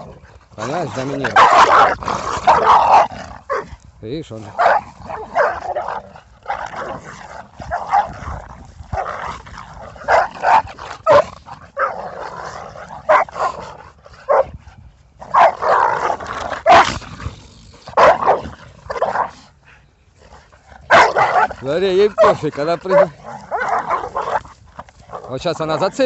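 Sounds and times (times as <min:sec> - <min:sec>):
dogs barking and yipping: 0:00.0 - 0:03.7, 0:04.6 - 0:09.4, 0:10.0 - 0:12.3, 0:12.9 - 0:14.6, 0:15.2 - 0:17.0, 0:17.9 - 0:19.4, 0:20.8 - 0:26.0.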